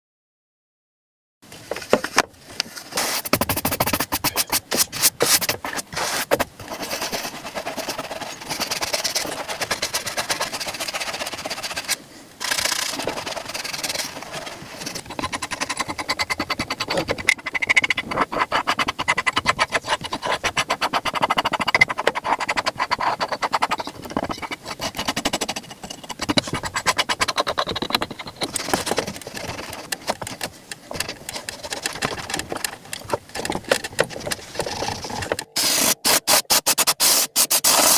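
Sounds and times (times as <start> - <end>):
brush scrubbing leather: 2.9 - 30.4, 34.3 - 37.9.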